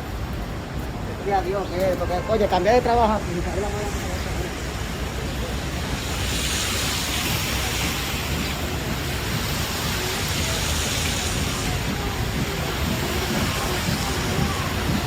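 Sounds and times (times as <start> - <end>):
city street noise hiss: 0.0 - 15.0.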